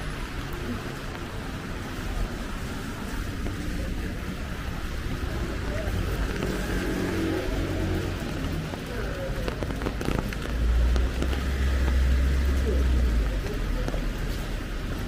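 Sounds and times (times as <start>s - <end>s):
deep vehicle rumble: 0.0s - 15.0s
wet traffic: 0.0s - 15.0s.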